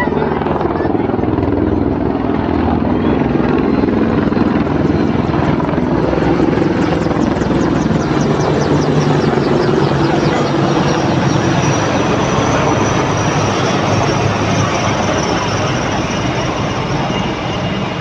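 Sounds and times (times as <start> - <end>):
helicopter flying overhead: 0.0 - 18.0.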